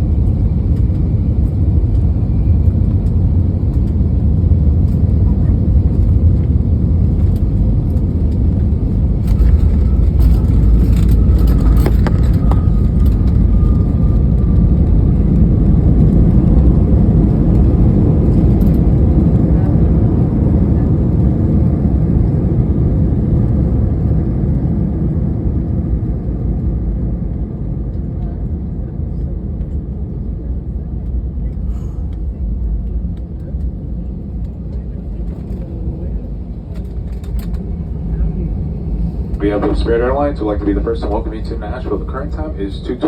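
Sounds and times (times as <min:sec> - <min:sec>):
airplane cabin rumble: 0:00.0 - 0:43.0.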